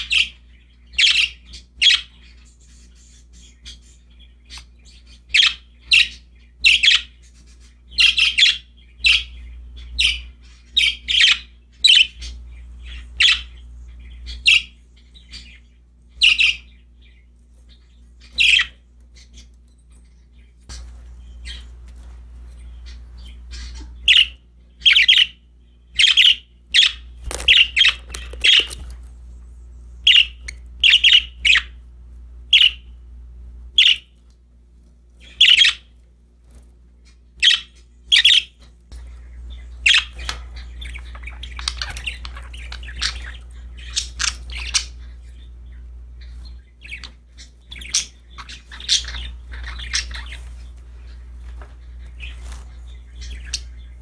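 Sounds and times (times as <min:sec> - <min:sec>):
budgerigars chirping and squawking: 0:00.0 - 0:34.3, 0:35.1 - 0:54.0
faint low hum: 0:00.0 - 0:54.0.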